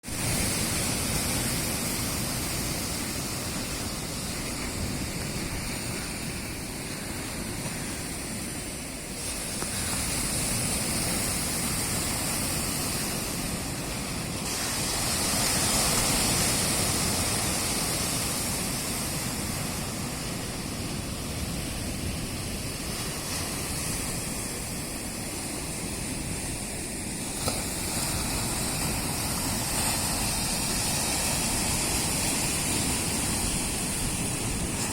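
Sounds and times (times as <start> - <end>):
surf breaking on rocky shore: 0.0 - 34.9.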